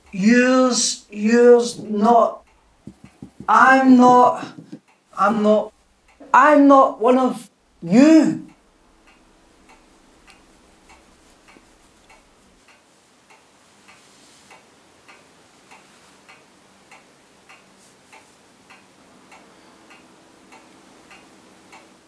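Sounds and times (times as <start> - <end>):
clock ticking faintly: 0.0 - 22.0.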